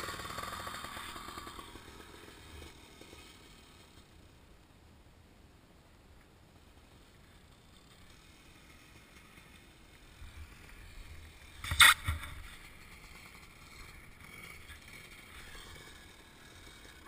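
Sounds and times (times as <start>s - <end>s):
dirt bike engine on gravel: 0.0s - 4.4s, 6.6s - 17.0s.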